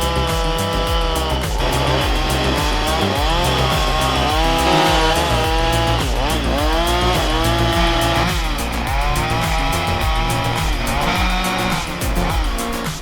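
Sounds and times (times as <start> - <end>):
background music: 0.0 - 13.0
chainsaw cutting wood: 0.0 - 13.0.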